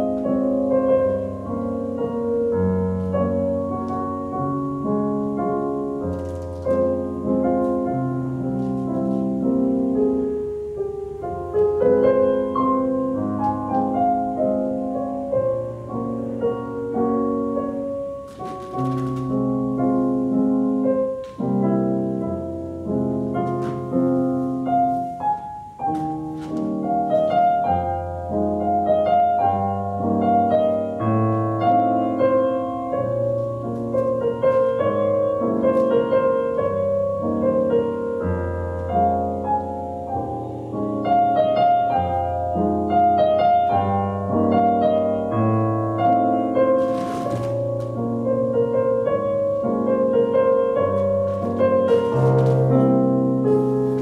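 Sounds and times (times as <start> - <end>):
solo piano chords: 0.0 - 54.0.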